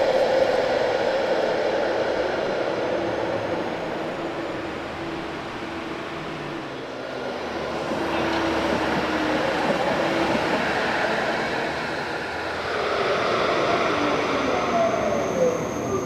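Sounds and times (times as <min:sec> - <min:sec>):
electric tram rolling: 0:00.0 - 0:16.0.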